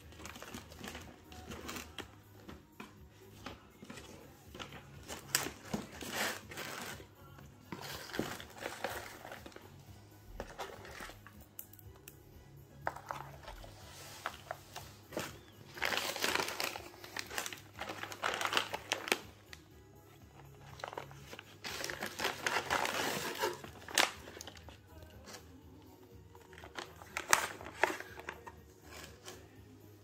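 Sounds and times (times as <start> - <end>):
paper and plastic packaging crinkling: 0.0 - 2.5, 3.4 - 9.7, 10.4 - 11.3, 12.8 - 19.6, 20.3 - 25.5, 26.3 - 29.5.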